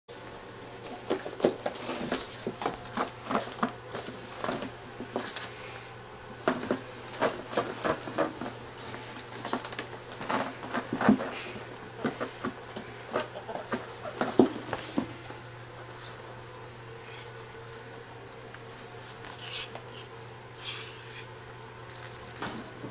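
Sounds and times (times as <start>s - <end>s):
ferrets scampering and scuffling: 0.8s - 21.3s.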